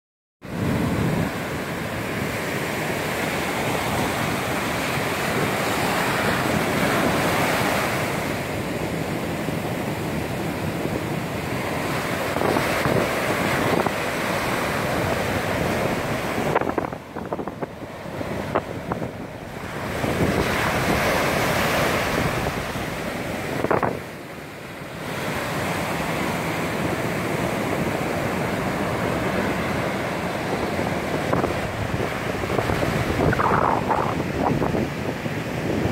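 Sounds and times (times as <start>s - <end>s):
wind buffeting microphone: 0.4s - 24.4s, 25.0s - 35.9s
surf breaking on a beach: 0.4s - 35.9s.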